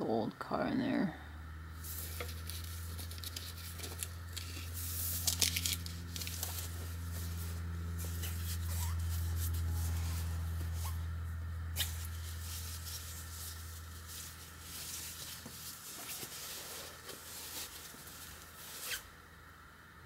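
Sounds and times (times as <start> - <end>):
low hum: 1.1 - 18.5
fabric strap rustling: 1.8 - 11.0, 11.8 - 19.1.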